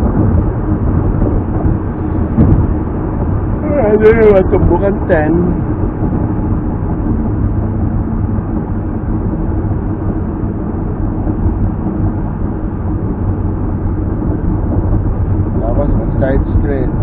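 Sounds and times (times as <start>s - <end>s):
car road and engine rumble: 0.0s - 17.0s
low hum: 0.0s - 17.0s.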